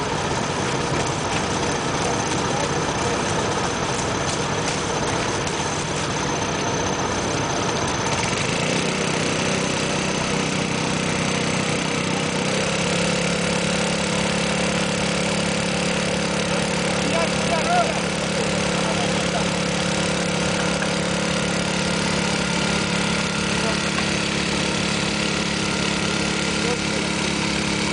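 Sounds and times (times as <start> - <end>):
small petrol engine running: 0.0 - 27.9.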